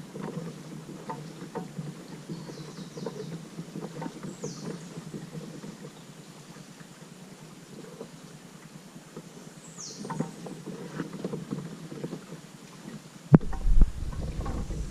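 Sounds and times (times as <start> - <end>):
small knocks and drips: 0.0 - 14.9
water splashing and sloshing: 0.0 - 14.9.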